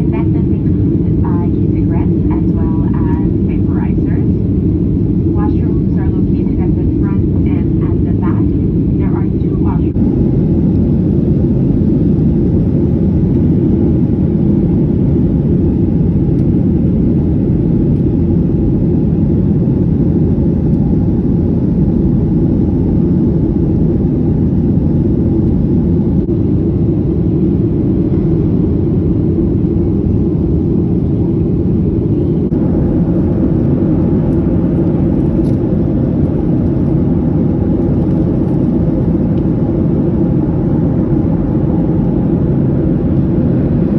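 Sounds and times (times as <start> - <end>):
jet engine rumble in cabin: 0.0 - 43.9.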